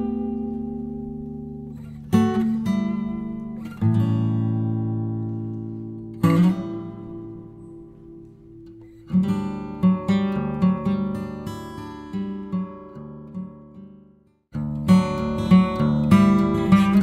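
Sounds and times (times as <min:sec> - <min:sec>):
acoustic guitar chords strummed: 0:00.0 - 0:17.0.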